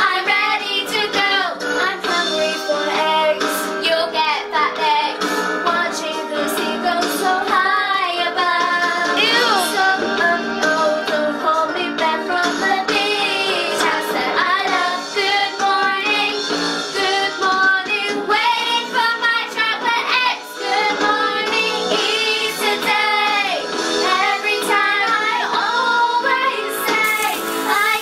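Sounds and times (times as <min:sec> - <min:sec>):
girls singing: 0:00.0 - 0:16.4, 0:17.0 - 0:28.0
backing track music: 0:00.0 - 0:28.0.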